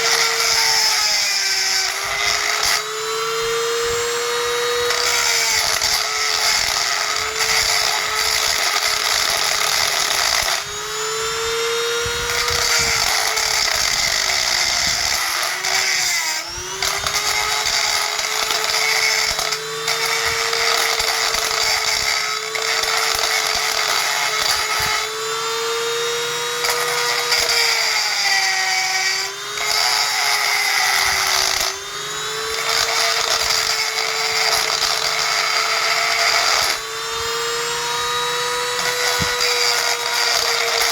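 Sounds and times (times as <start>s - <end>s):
power grinder whining: 0.0s - 40.9s.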